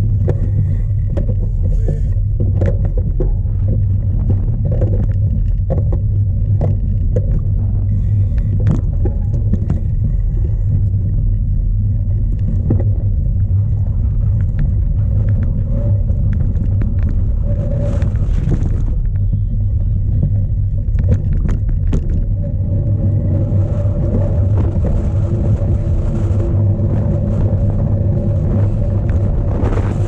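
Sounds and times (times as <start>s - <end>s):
bike rattling over rough ground: 0.0s - 30.0s
wind buffeting microphone: 0.0s - 30.0s.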